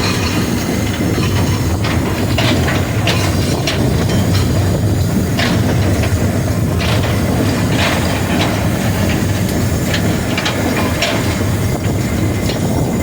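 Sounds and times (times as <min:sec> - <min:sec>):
rail clicks: 0:00.0 - 0:13.0
steam locomotive rumble: 0:00.0 - 0:13.0.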